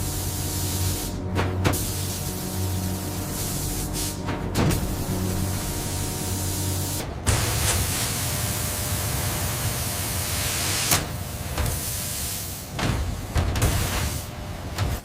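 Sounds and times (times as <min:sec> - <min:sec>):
steady hissing rush: 0:00.0 - 0:14.8.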